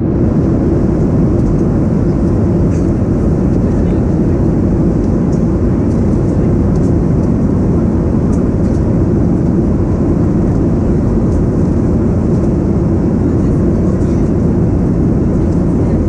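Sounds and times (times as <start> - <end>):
jet engine cabin rumble: 0.0 - 16.0.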